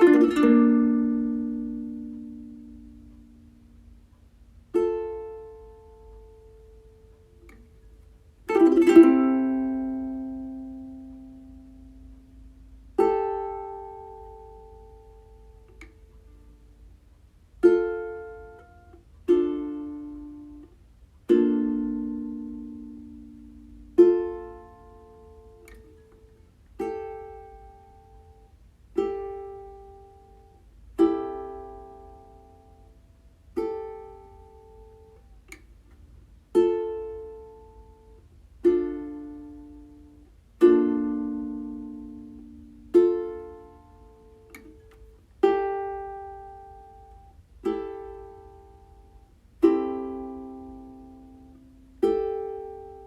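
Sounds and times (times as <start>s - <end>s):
ukulele chords strummed: 0.0s - 53.0s.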